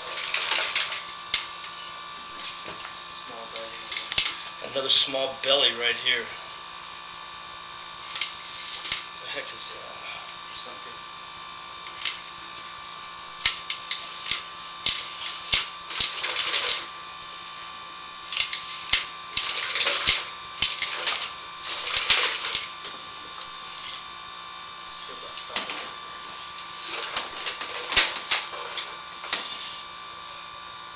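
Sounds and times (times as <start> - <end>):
steady high hum: 0.0 - 30.9.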